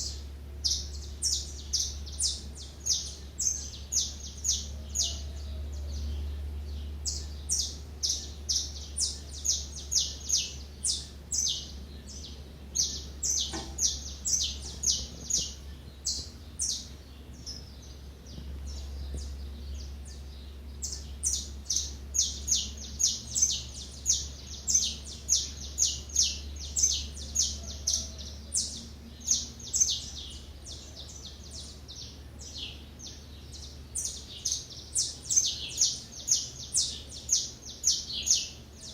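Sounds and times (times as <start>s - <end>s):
small birds chirping: 0.0s - 38.9s
steady low hum: 0.0s - 38.9s.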